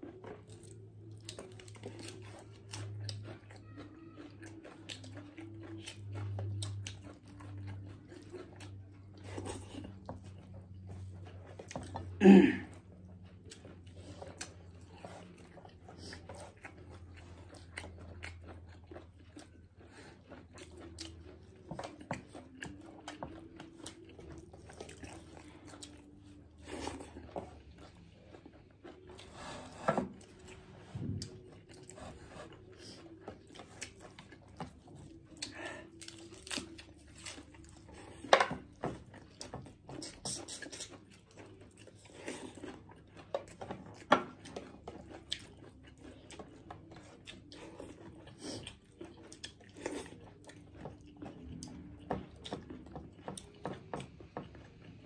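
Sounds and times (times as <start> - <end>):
chewing and lip-smacking: 0.0 - 55.0.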